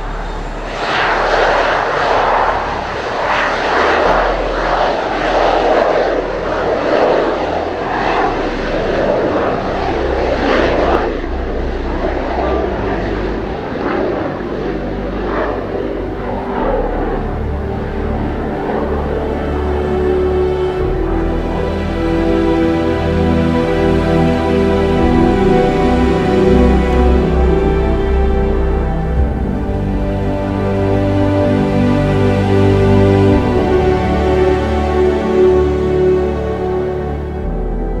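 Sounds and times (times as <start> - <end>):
wind buffeting microphone: 0.0 - 31.8
jet engine roar: 0.0 - 38.0.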